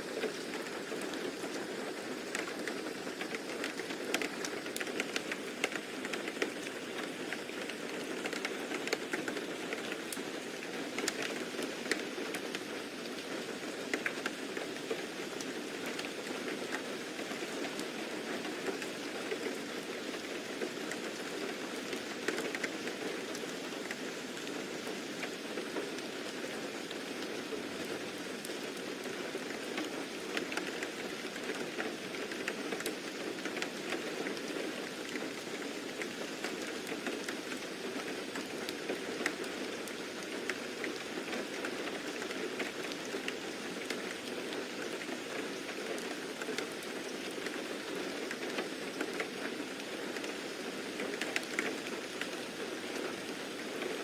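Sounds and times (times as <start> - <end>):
steady rain falling: 0.0 - 54.0
raindrops ticking: 0.1 - 53.9.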